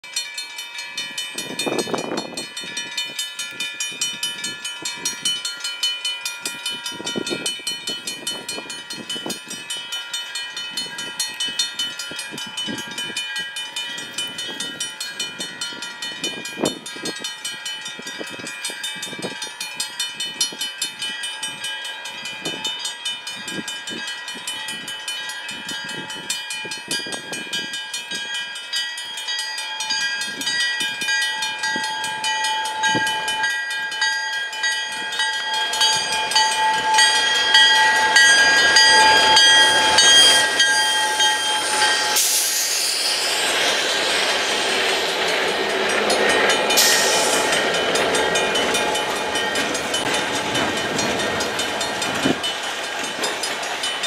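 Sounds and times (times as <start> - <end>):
level crossing bell ringing: 0.0 - 54.0.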